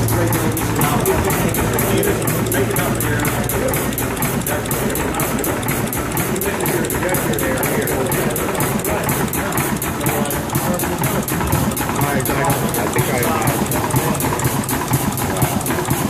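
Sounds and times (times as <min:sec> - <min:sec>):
air compressor: 0:00.0 - 0:16.0
diesel engine running: 0:00.0 - 0:16.0.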